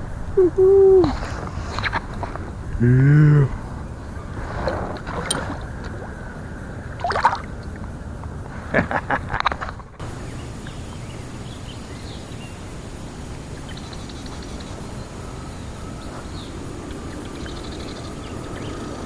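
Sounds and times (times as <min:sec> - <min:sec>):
small birds chirping: 0:00.0 - 0:06.9, 0:10.0 - 0:19.0.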